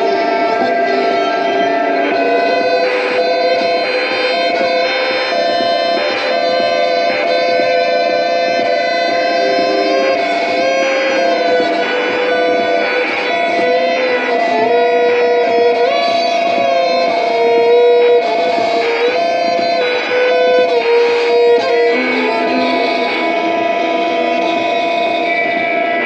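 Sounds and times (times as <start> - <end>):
sliding string notes: 0.0 - 26.0
steady electronic drone: 0.0 - 26.0.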